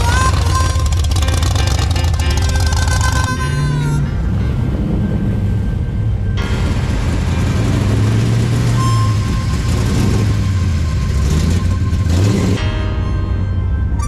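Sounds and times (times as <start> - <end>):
car engine rumbling past: 0.0 - 14.0.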